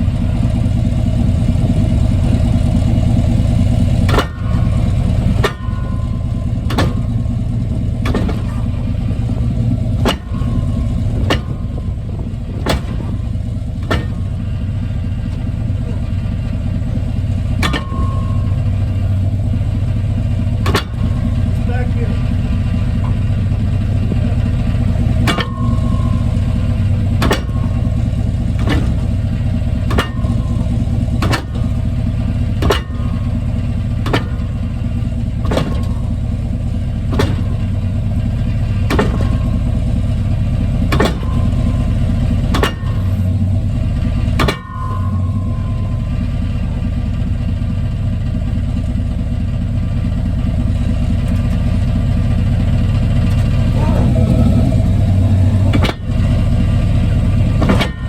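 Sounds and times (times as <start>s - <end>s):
sharp drivetrain clunks: 0.0s - 58.0s
truck engine droning: 0.0s - 58.0s.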